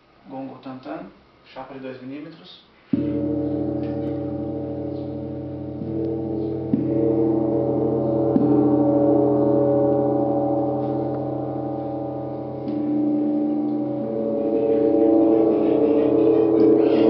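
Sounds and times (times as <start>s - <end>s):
gong struck with felt mallet: 3.0s - 17.0s.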